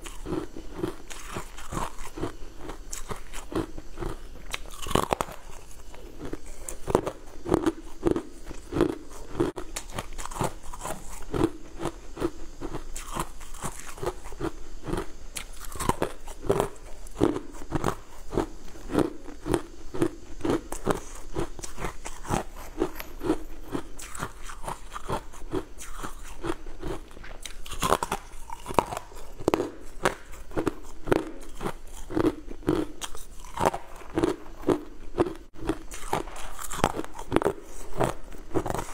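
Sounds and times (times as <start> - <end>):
ice being crunched and chewed: 0.0 - 38.9.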